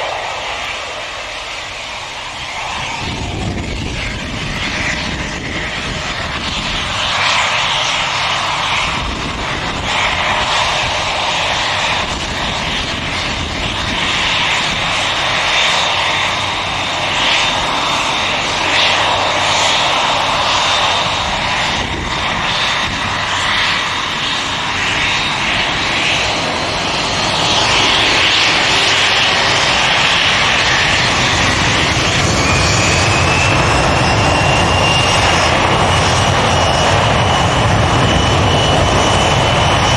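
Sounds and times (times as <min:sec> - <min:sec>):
high jet whine: 0:00.0 - 0:39.9
jet engines roaring: 0:00.0 - 0:39.9.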